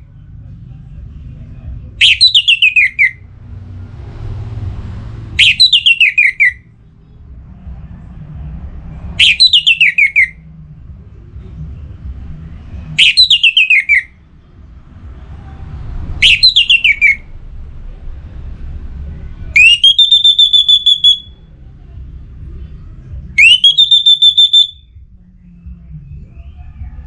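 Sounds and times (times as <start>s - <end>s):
low background rumble: 0.0s - 27.0s
thrush singing: 0.0s - 27.0s.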